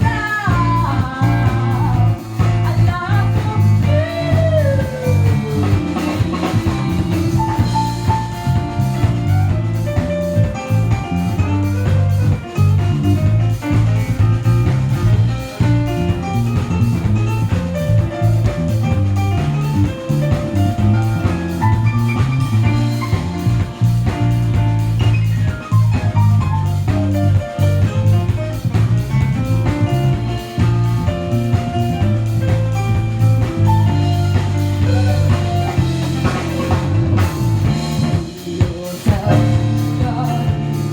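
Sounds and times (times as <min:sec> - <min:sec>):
drum kit beat: 0:00.0 - 0:40.9
heavy bass line: 0:00.0 - 0:40.9.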